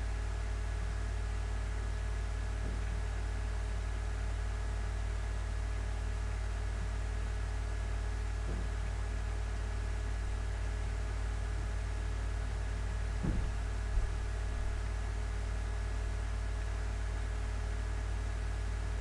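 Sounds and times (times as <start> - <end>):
low hum with faint hiss: 0.0 - 19.0.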